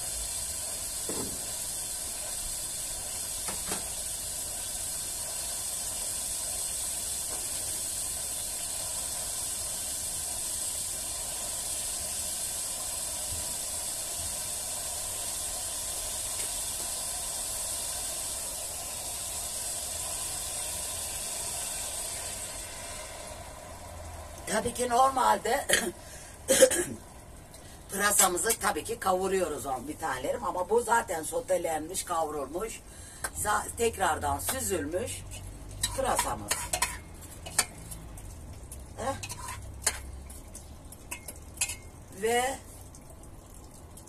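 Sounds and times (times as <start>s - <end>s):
food sizzling in a pot: 0.0s - 43.4s.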